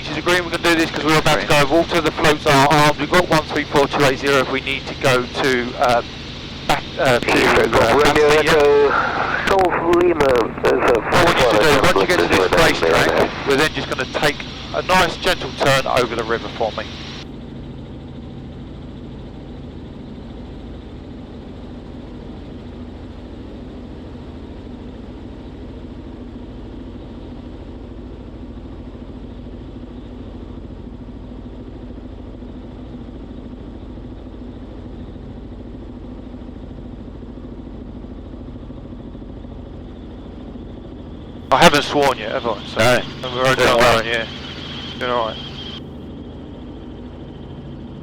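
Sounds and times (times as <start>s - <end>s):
helicopter engine and rotors droning: 0.0s - 48.0s.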